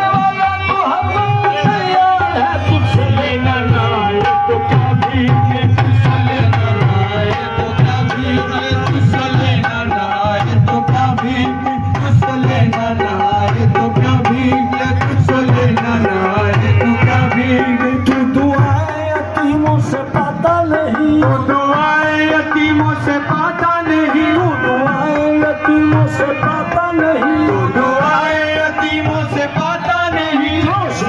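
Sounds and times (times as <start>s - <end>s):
harmonium chords: 0.0s - 31.0s
person singing amplified: 0.0s - 31.0s
tabla beat: 0.0s - 31.0s.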